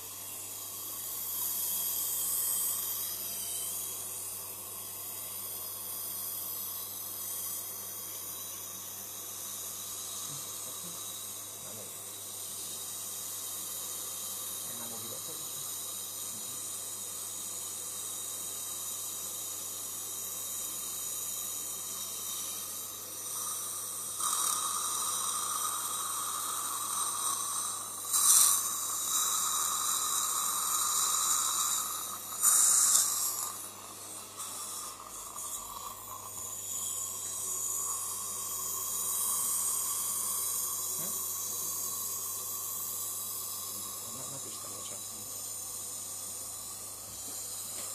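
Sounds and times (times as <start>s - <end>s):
dental suction tube hissing: 0.0s - 47.9s.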